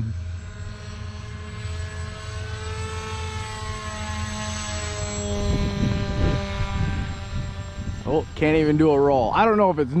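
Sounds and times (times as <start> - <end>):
model plane motor whine: 0.0 - 10.0.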